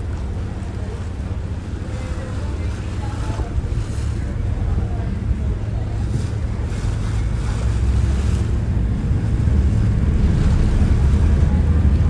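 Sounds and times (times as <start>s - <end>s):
ferry engine droning: 0.0s - 12.0s
water washing along hull: 0.0s - 12.0s
wind buffeting microphone: 0.0s - 12.0s.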